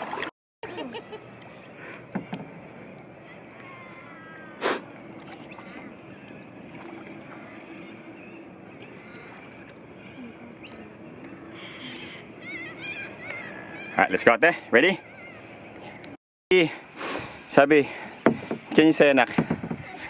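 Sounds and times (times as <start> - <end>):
water and paddle noise: 0.0 - 20.0.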